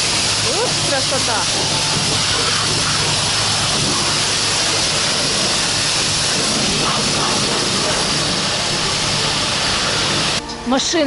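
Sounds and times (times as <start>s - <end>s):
pressure washer water jet hissing: 0.0s - 10.4s.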